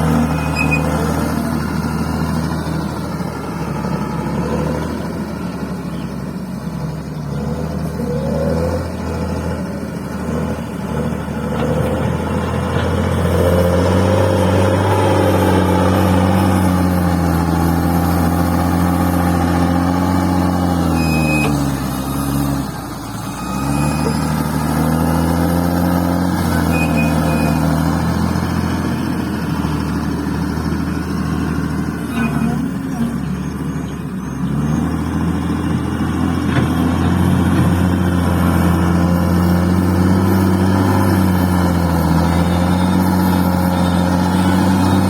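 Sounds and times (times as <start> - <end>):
bulldozer engine under load: 0.0 - 45.0.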